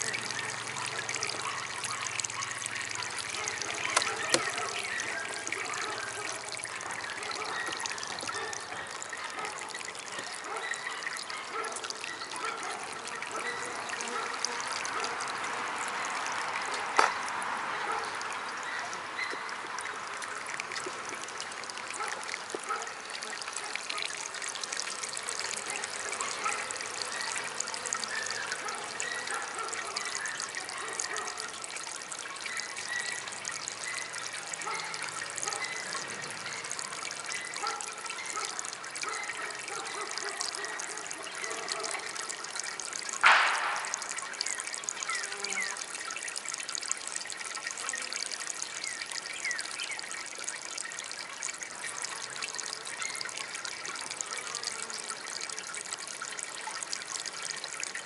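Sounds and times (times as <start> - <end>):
water trickling in a fountain: 0.0 - 58.0.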